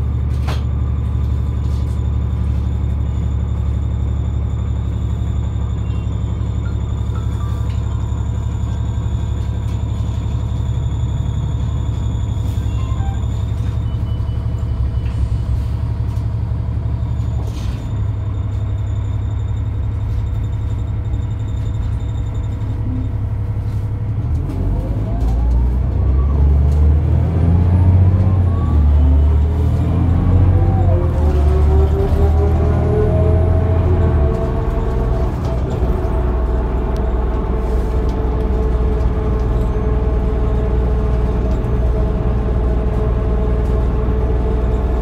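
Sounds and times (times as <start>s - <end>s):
bus diesel engine: 0.0s - 45.0s.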